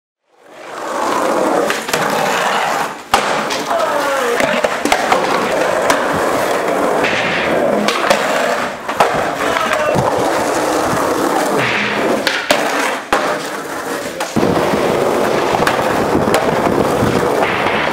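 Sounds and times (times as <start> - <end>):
skateboard wheels rolling on concrete: 0.2 - 17.9
skateboard clacking on ground: 0.5 - 17.9.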